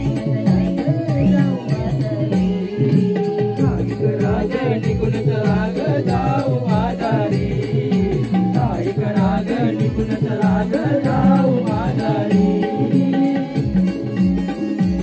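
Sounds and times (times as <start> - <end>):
person singing a melody: 0.0 - 14.0
percussion keeping the beat: 0.0 - 15.0.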